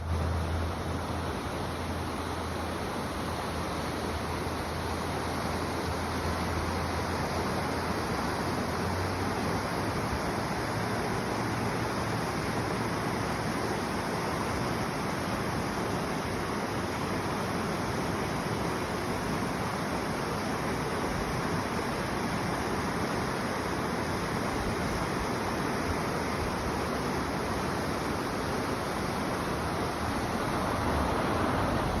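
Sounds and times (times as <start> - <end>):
river stream flowing: 0.0 - 32.0.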